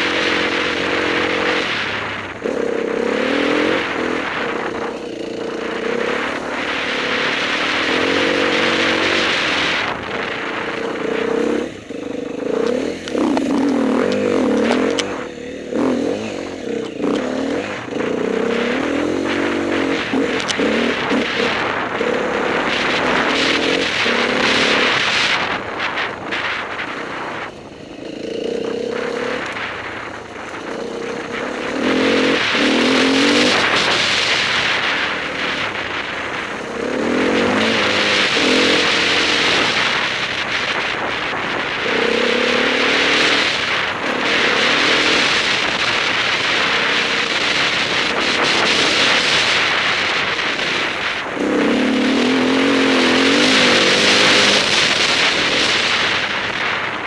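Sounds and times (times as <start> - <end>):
motorcycle engine revving: 0.0 - 57.0
steady rush of noise: 0.0 - 57.0.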